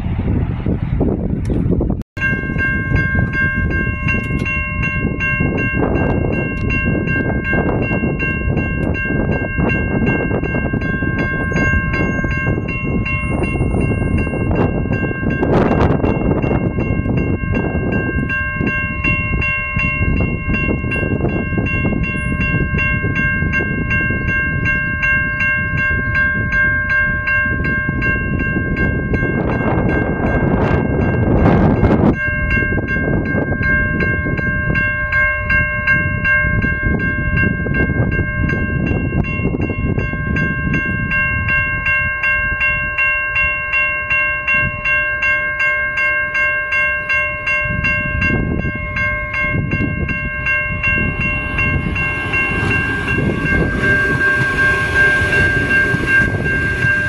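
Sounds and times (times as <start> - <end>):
distant electric train: 0.0 - 57.0
wind rumble on microphone: 0.0 - 57.0
level crossing bell ringing: 2.2 - 57.0.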